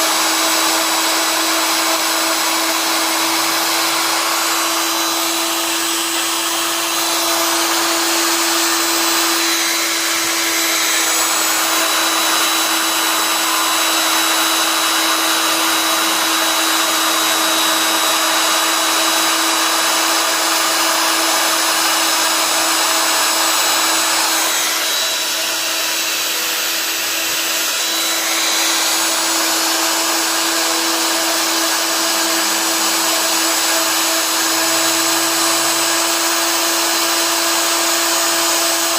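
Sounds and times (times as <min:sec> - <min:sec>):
cnc machine whining: 0:00.0 - 0:38.9.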